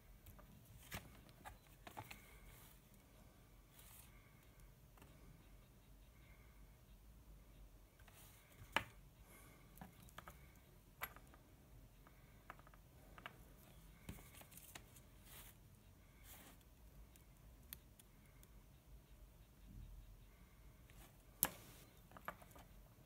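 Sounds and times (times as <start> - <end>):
small clicks and scratchy taps: 0.2 - 6.4, 7.6 - 23.0.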